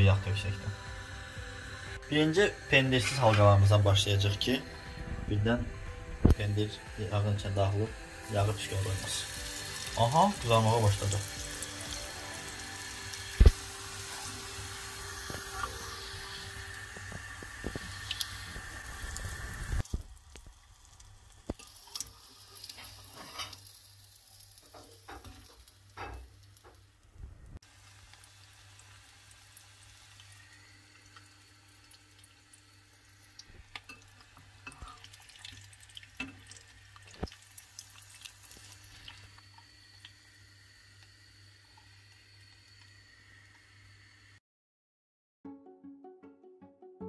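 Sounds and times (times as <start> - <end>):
food sizzling in oil: 0.0 - 27.0, 27.6 - 44.3.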